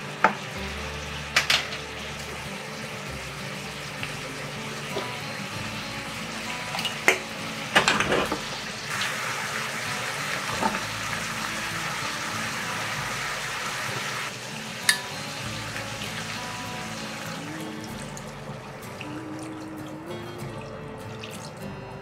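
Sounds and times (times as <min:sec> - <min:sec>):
food sizzling in frying pan: 0:00.0 - 0:19.0.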